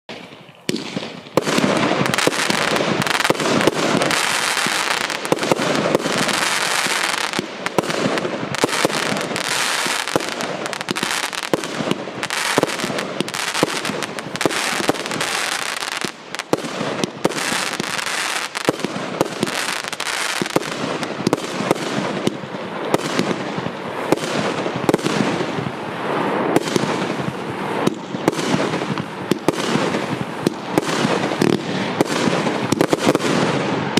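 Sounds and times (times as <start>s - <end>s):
firework aerial bursts: 0.1s - 33.9s.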